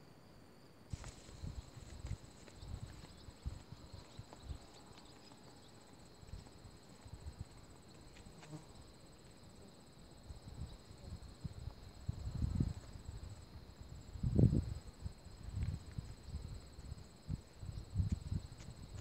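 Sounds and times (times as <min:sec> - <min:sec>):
insects trilling: 0:00.9 - 0:19.0.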